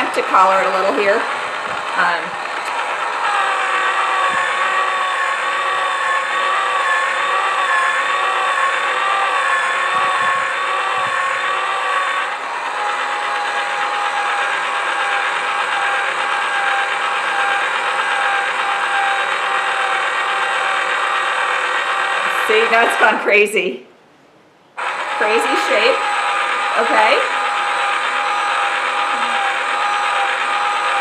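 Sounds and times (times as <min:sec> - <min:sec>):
electric motor whining: 0:00.0 - 0:23.3, 0:24.8 - 0:31.0.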